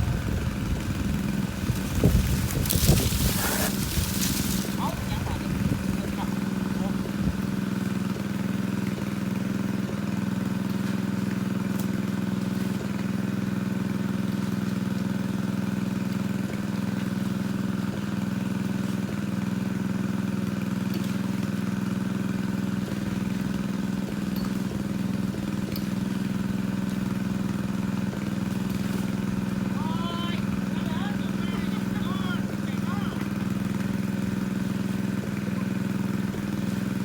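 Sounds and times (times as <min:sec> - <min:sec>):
water pump engine humming: 0:00.0 - 0:37.0.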